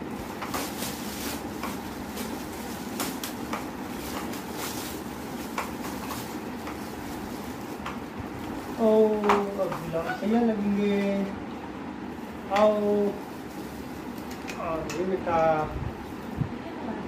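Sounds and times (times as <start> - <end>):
plastic packaging crinkling: 0.0 - 11.2, 12.1 - 14.8.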